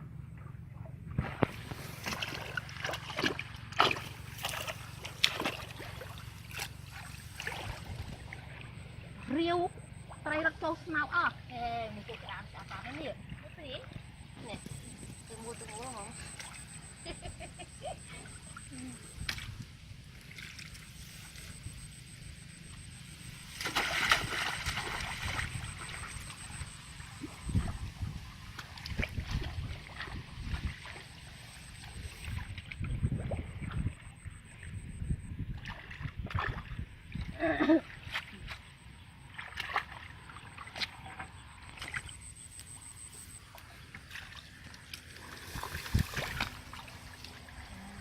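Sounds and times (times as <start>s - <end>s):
low steady rumble: 0.0s - 48.0s
water splashing and sloshing: 0.1s - 48.0s.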